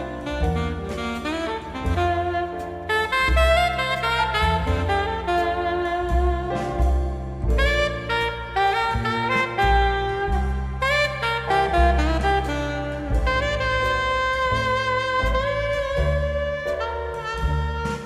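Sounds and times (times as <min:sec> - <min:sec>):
bass: 0:00.0 - 0:18.0
drums: 0:00.0 - 0:18.0
saxophone: 0:00.0 - 0:18.0.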